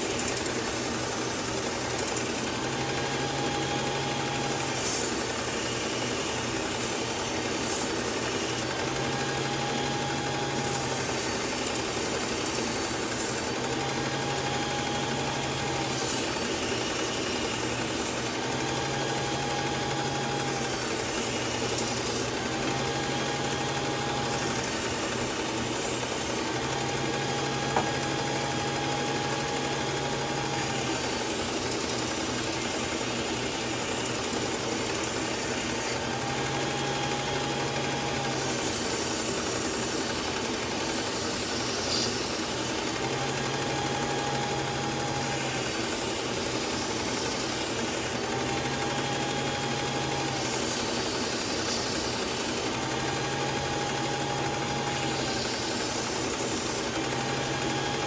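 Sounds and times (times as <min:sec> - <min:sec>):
belt sharpener running: 0:00.0 - 0:58.0.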